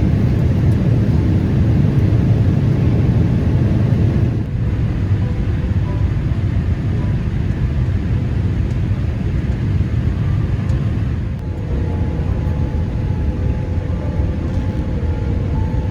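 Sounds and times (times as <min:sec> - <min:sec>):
airliner cabin engine rumble: 0:00.0 - 0:15.9.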